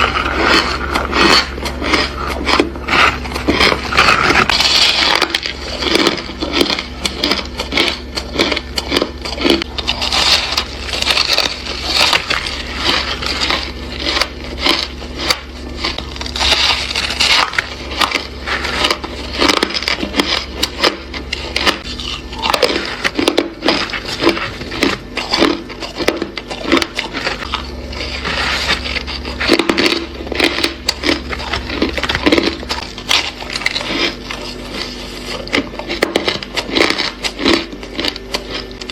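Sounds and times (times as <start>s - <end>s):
faint low hum: 0.0s - 38.9s
ice being chewed: 0.0s - 38.9s.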